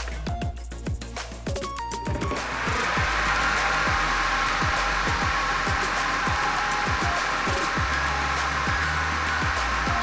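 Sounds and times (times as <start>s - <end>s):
electronic music with deep kick drums: 0.0s - 10.0s.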